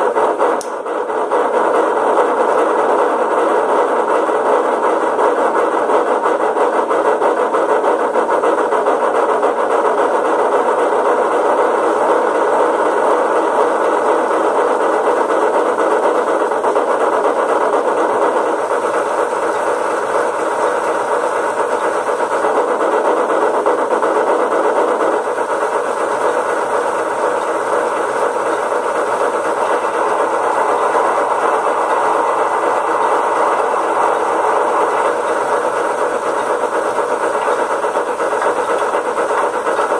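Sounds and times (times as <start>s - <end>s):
steam locomotive sound from speaker: 0.0s - 39.9s.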